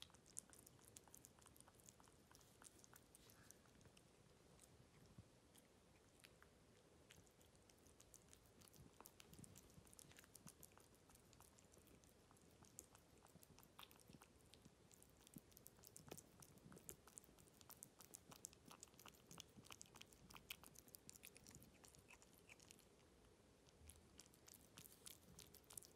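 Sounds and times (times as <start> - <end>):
kitten smacking and licking: 0.0 - 25.9.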